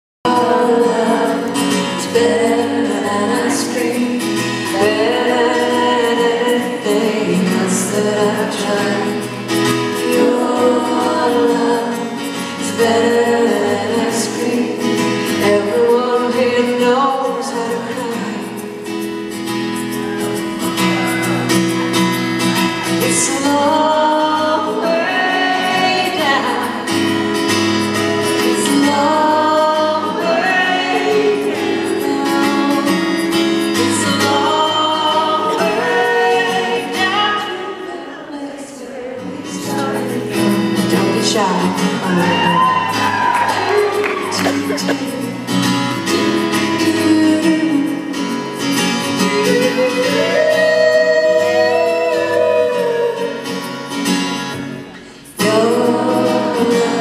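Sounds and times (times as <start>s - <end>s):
woman singing: 0.3s - 18.8s, 22.9s - 53.8s, 55.3s - 57.0s
strummed acoustic guitar: 0.3s - 57.0s.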